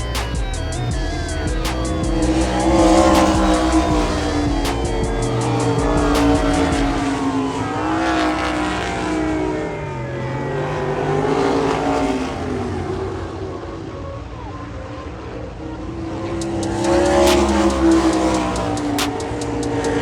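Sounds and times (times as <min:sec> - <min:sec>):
race car engines revving: 0:00.0 - 0:14.3, 0:15.1 - 0:20.0.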